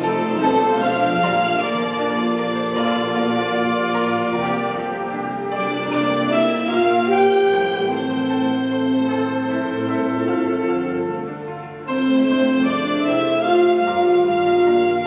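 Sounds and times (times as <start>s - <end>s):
orchestra holding long chords: 0.0s - 15.0s.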